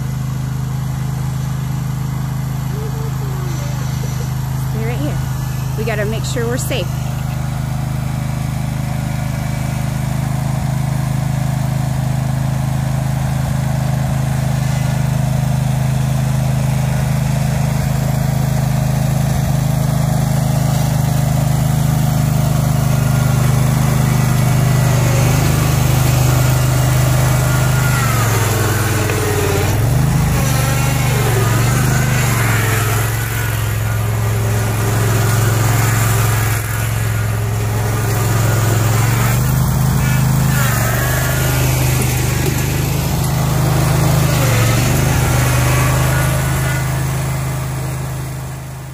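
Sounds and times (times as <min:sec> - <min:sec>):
small gasoline engine running: 0:00.0 - 0:48.9.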